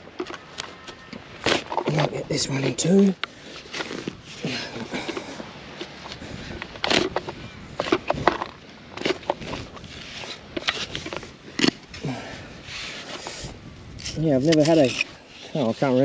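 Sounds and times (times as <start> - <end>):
soil crackling: 0.0 - 16.0.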